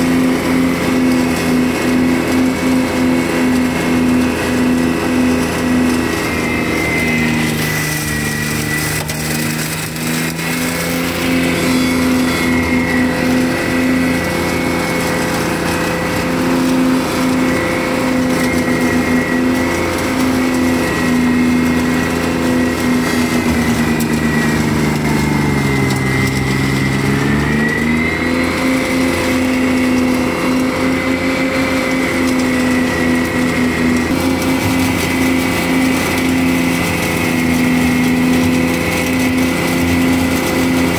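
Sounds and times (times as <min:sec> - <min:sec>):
mower high whine: 0:00.0 - 0:40.9
tractor engine under load: 0:00.0 - 0:40.9.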